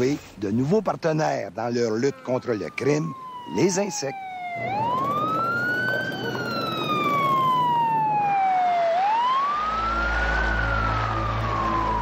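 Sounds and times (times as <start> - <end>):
police siren wailing: 1.9 - 12.0.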